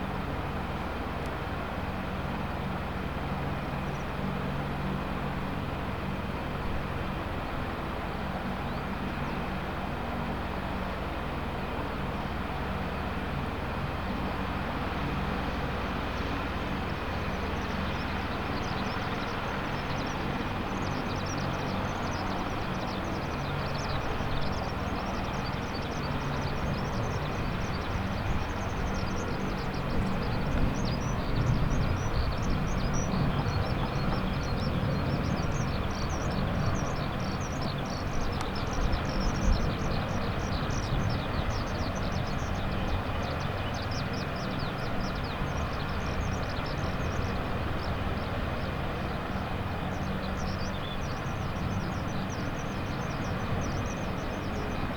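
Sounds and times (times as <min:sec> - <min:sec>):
helicopter turbine and rotor: 0:00.0 - 0:54.9.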